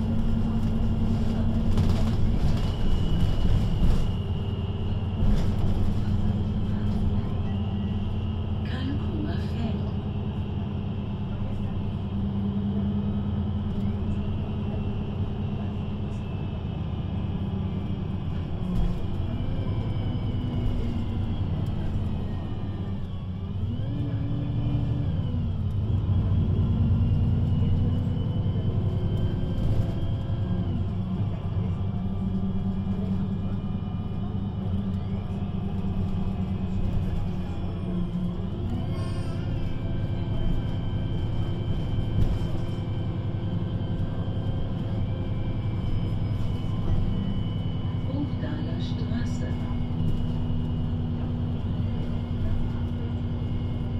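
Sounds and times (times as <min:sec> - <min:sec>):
bus diesel engine: 0:00.0 - 0:53.9.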